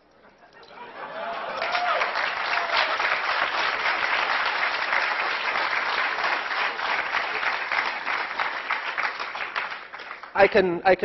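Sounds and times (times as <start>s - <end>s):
audience applauding: 0.9s - 10.6s.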